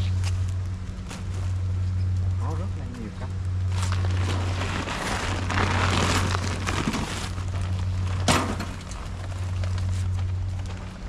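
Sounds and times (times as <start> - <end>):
plastic sacks rustling: 0.0 - 1.9, 3.6 - 11.0
steady low hum: 0.0 - 11.0.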